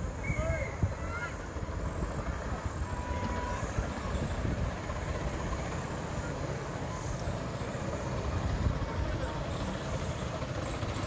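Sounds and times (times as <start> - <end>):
chairlift rumbling: 0.0 - 11.0.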